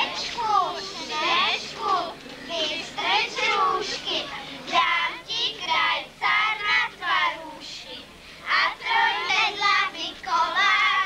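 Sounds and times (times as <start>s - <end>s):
children singing: 0.0s - 7.8s, 8.5s - 11.0s.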